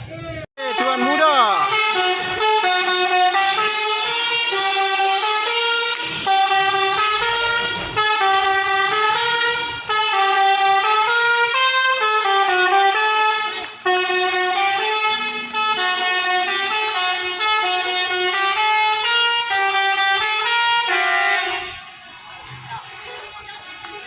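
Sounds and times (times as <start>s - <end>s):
musical bus horn tune: 0.6s - 21.8s.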